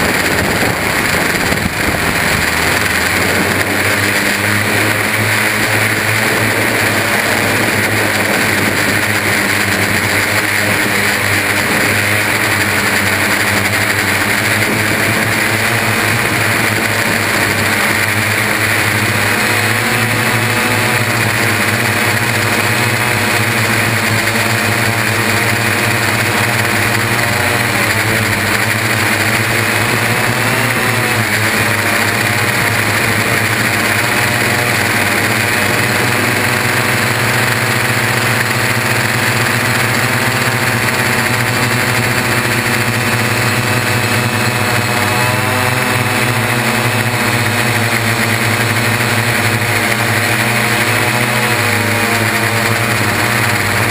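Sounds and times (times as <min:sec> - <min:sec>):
multirotor drone motors droning: 0:00.0 - 0:53.9.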